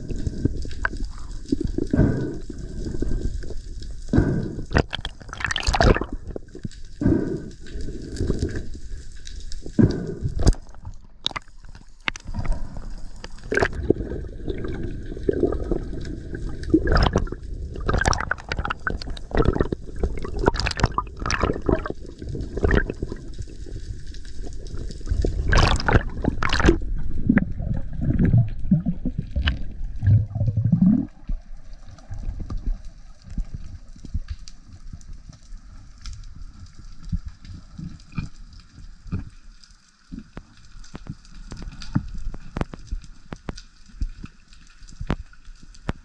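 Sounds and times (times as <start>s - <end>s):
water churning underwater: 0.0s - 46.0s.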